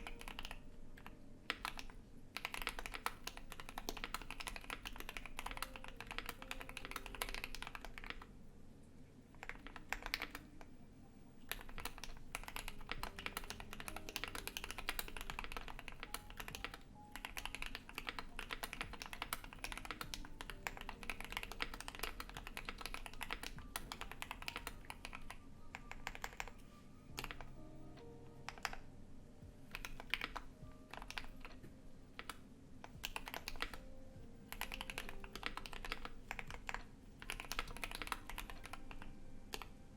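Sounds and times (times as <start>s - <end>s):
typing on mechanical keyboard: 0.0s - 8.3s, 9.4s - 10.7s, 11.4s - 28.9s, 29.6s - 39.8s.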